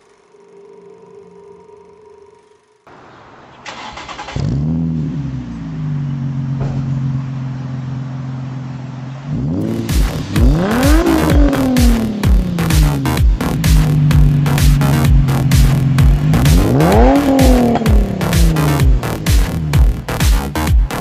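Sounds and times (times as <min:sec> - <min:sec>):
car engine starting and idling: 0:02.9 - 0:21.0
car engine revving: 0:03.7 - 0:21.0.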